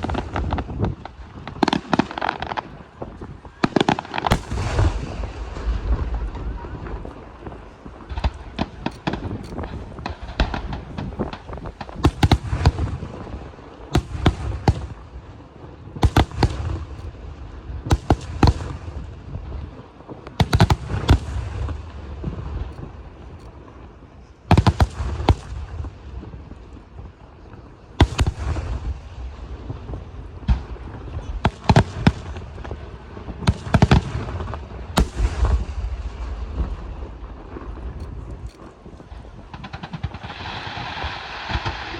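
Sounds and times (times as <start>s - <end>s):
fireworks bangs: 0.0s - 23.4s, 24.5s - 41.9s
fireworks crackling: 0.0s - 41.9s.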